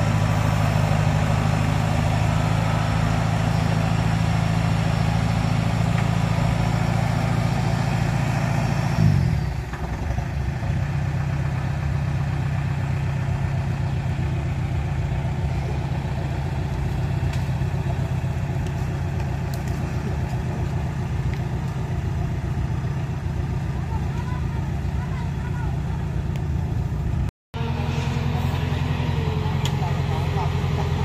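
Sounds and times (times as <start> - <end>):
combine harvester diesel engine: 0.0 - 31.0.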